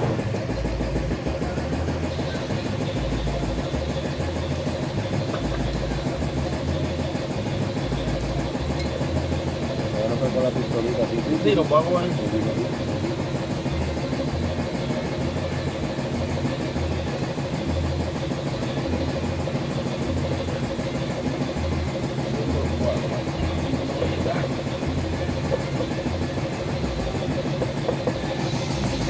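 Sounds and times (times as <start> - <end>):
motor running with hum: 0.0 - 29.0.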